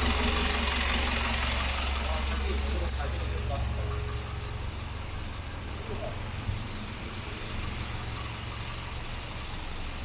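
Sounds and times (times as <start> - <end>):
low rumble of engines: 0.0 - 10.0.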